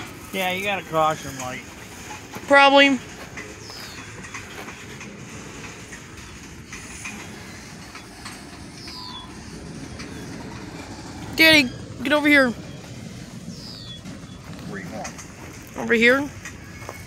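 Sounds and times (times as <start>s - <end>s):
freight train rumbling: 0.0s - 17.0s
train wheel clicks: 0.0s - 17.0s.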